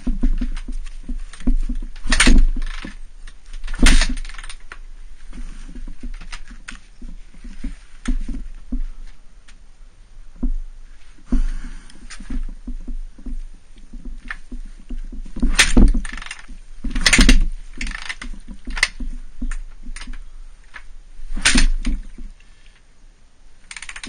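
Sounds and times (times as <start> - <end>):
knocks and clatter: 0.0 - 9.2, 10.4 - 10.7, 11.3 - 22.3
motorcycle kick-starter kicks: 0.0 - 9.2, 10.4 - 22.4.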